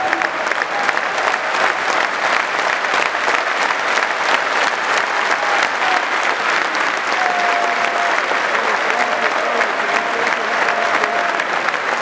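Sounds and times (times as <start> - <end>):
stadium crowd clapping: 0.0 - 12.0.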